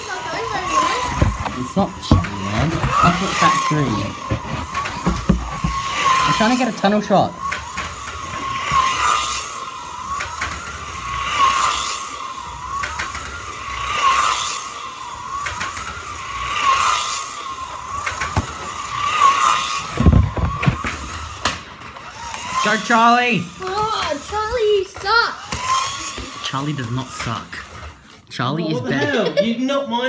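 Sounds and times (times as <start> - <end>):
slot car motors whining: 0.0 - 30.0.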